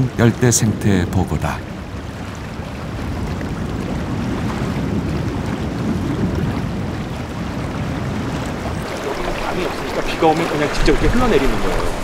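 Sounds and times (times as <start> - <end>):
water noise: 0.0 - 12.0
wind rumble: 0.0 - 12.0.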